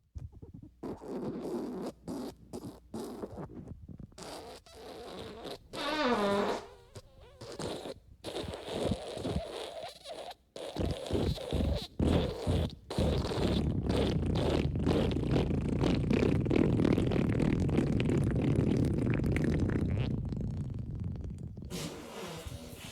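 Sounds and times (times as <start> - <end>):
fart sound effects: 0.8 - 22.9.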